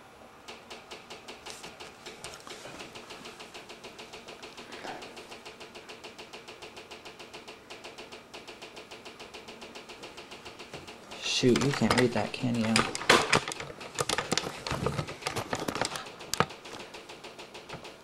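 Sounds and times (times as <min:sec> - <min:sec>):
rapid soft ticking: 0:00.4 - 0:18.0.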